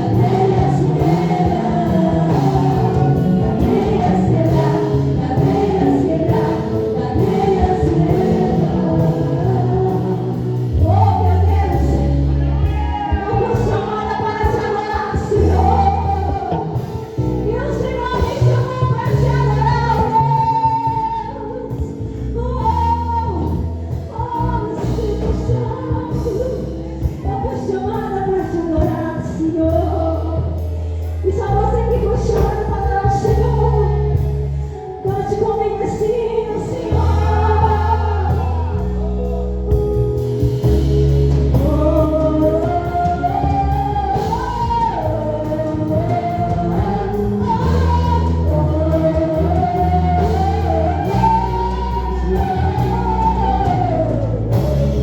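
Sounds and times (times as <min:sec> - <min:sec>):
gospel worship song: 0:00.0 - 0:55.0.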